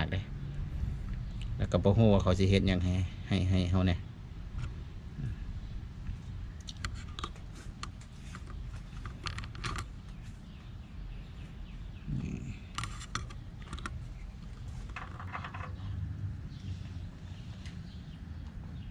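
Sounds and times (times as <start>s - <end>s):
low steady rumble: 0.0s - 18.9s.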